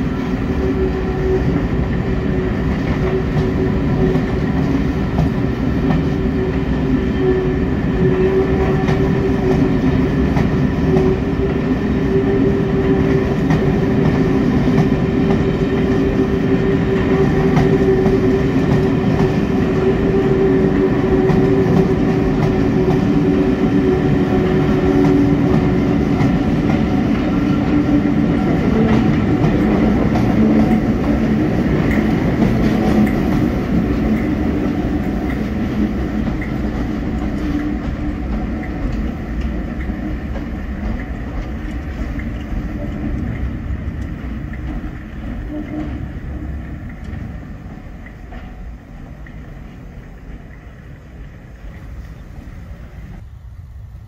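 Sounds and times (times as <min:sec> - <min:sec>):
train wheels clattering over rail joints: 0:00.5 - 0:51.8.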